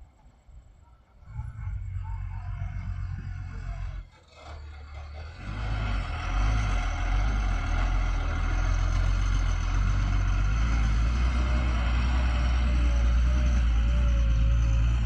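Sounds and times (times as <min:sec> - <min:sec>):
heavy diesel engine running: 0:01.3 - 0:15.0.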